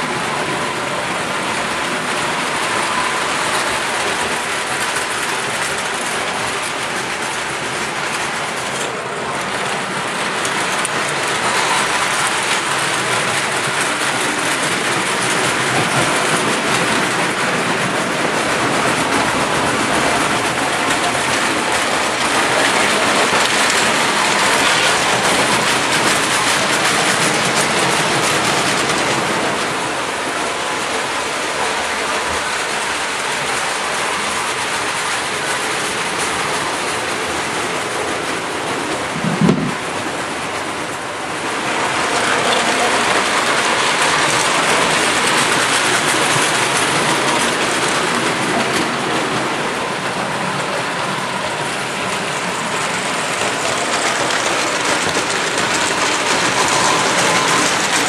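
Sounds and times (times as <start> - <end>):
toy train wheels clattering on rails: 0.0 - 58.0.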